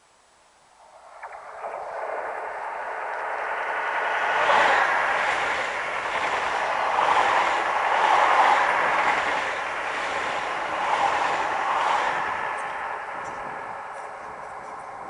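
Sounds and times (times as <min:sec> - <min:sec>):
train wheels rushing on rails: 0:01.6 - 0:15.0.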